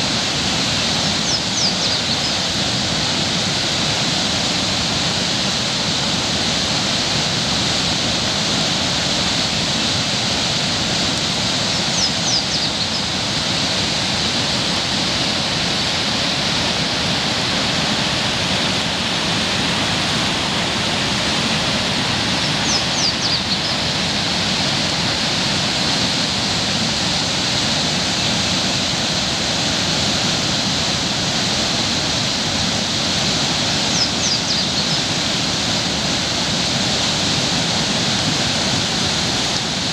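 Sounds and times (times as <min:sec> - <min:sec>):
rushing whitewater: 0:00.0 - 0:39.9.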